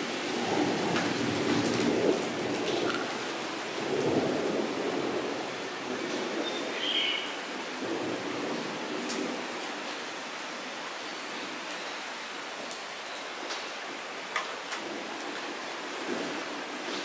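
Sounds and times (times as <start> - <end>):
rain falling into a puddle: 0.0 - 17.0.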